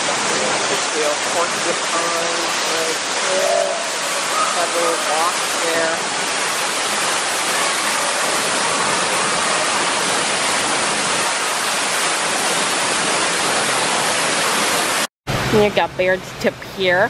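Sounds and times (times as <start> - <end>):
steady rushing noise: 0.0 - 15.7.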